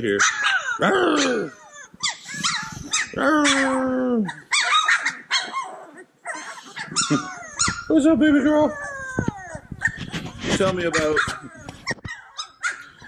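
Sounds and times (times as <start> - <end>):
puppies yipping and whining: 0.0 - 13.0.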